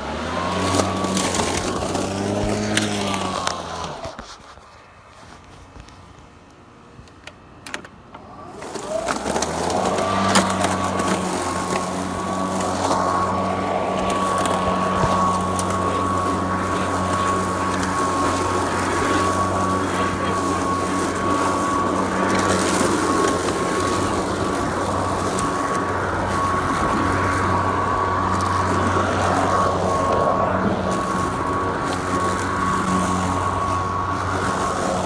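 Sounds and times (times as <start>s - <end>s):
lawn mower whining: 0.0s - 35.0s.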